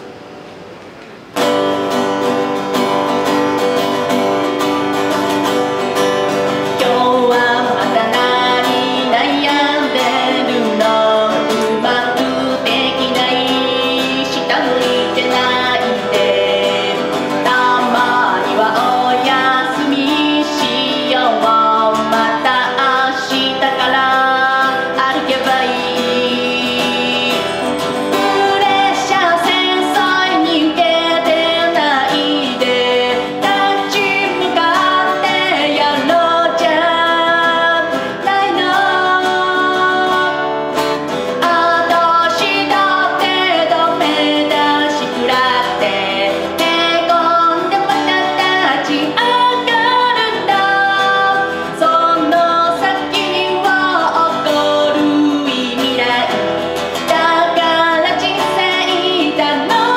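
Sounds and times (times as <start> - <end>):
acoustic guitar strumming: 0.0 - 59.9
woman singing: 3.8 - 59.9.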